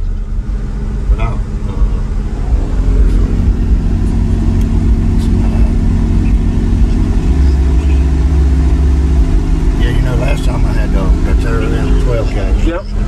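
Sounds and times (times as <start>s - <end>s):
deep rumble inside vehicle cab: 0.0s - 13.0s.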